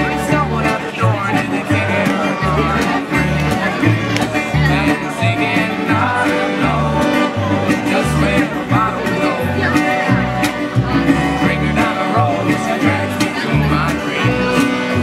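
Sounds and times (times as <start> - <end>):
bass line: 0.0 - 15.0
person singing: 0.0 - 15.0
resonator guitar picked: 0.0 - 15.0.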